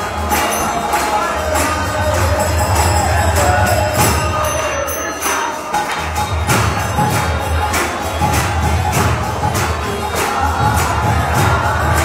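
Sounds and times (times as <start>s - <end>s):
group singing devotional chant: 0.0s - 12.0s
jangling hand cymbals: 0.0s - 12.0s.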